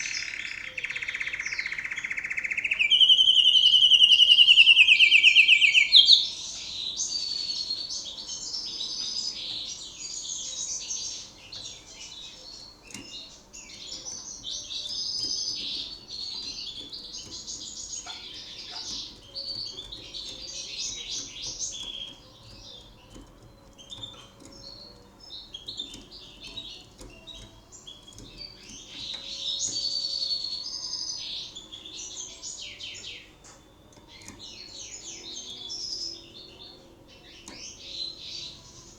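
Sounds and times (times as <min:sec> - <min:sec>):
canary singing trills and chirps: 0:00.0 - 0:38.9.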